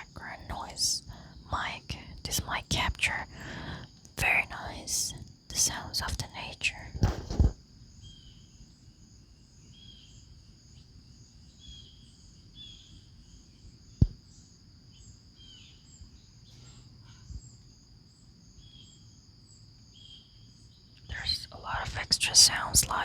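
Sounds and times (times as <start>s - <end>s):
insect trill: 0.0s - 7.0s, 7.6s - 23.0s.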